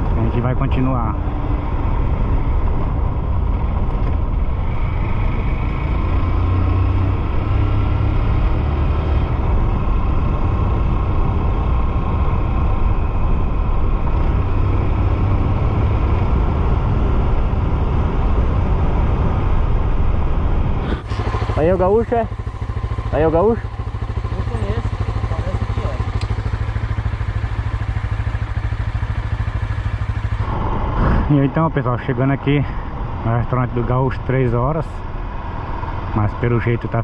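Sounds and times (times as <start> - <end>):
motorcycle engine running: 0.0 - 37.0
rush of road noise: 0.0 - 37.0.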